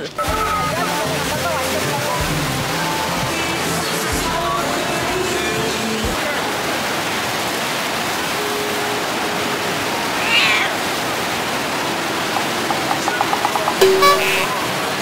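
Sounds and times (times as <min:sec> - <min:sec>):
water rushing over surface: 0:00.0 - 0:15.0.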